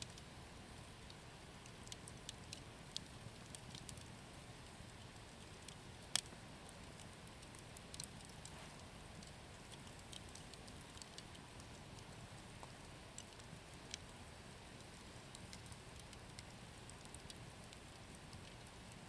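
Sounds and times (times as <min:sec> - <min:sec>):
wood bonfire crackling: 0:00.0 - 0:19.0.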